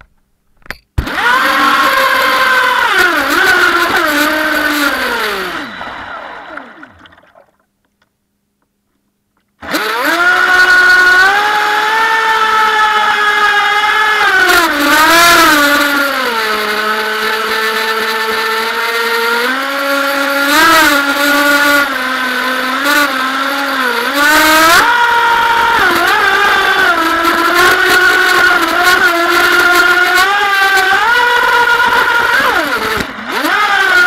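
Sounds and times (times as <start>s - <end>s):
electric motor whining: 1.0s - 7.4s, 9.6s - 34.0s.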